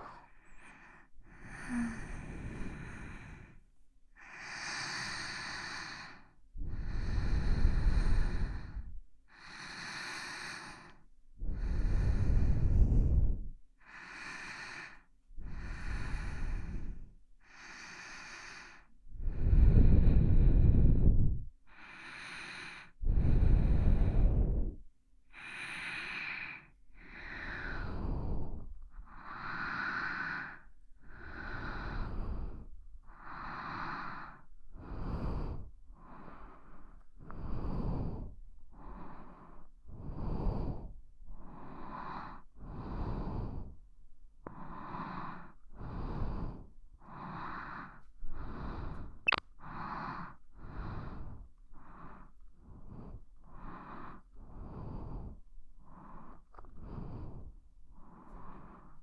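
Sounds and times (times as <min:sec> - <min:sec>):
close-miked slow breathing: 0:00.0 - 0:59.0.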